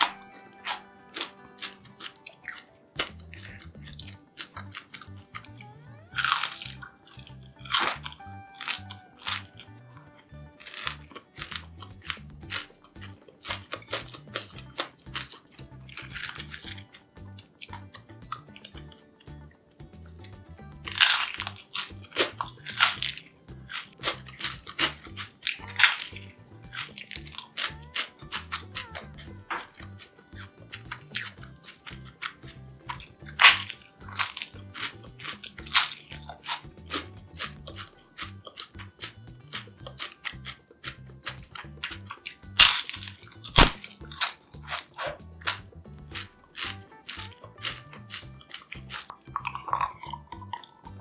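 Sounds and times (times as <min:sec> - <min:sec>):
background music: 0:00.0 - 0:51.0
crunching crispy fried food: 0:00.0 - 0:51.0.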